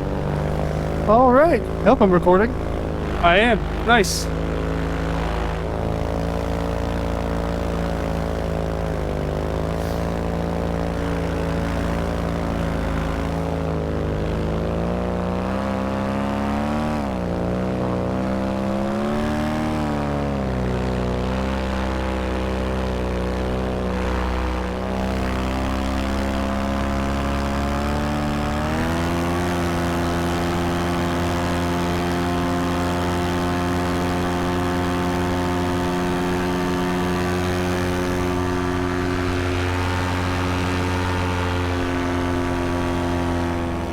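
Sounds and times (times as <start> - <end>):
paramotor engine running: 0.0 - 43.9.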